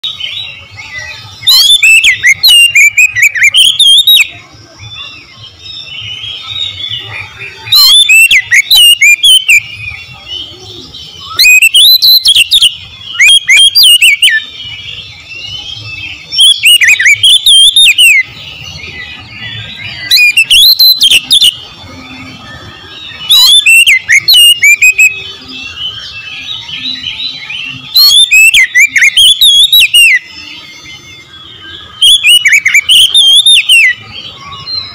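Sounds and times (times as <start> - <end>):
bird singing whistled phrases: 0.0 - 34.9.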